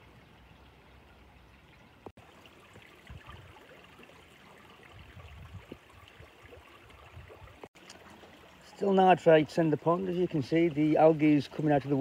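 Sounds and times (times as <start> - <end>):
waterfall trickling and splashing: 0.0 - 12.0.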